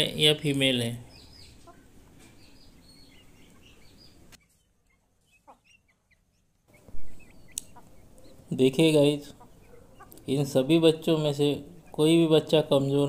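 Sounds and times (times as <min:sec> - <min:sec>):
background hiss: 0:00.0 - 0:13.0
chicks peeping: 0:00.0 - 0:13.0.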